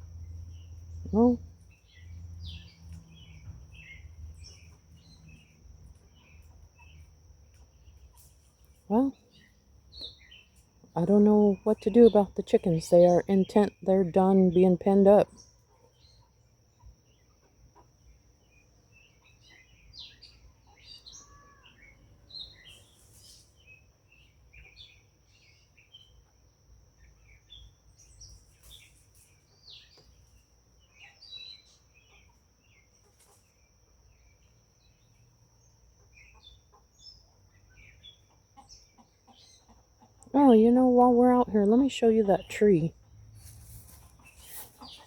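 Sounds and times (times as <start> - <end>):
faint birds chirping: 0.0 - 45.0.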